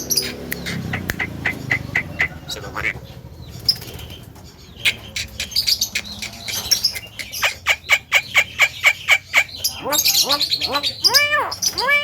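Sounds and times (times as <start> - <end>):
bird harsh clicking notes: 0.0 - 3.0, 3.6 - 12.0.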